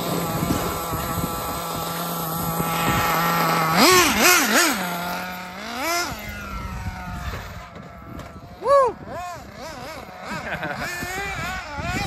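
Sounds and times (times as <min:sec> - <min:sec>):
radio-controlled car motor whining: 0:00.0 - 0:12.0.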